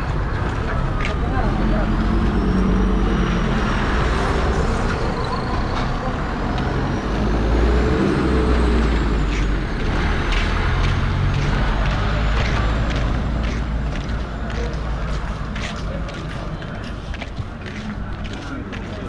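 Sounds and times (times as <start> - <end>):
heavy vehicle engine rumbling: 0.0 - 19.0
street traffic: 0.0 - 19.0.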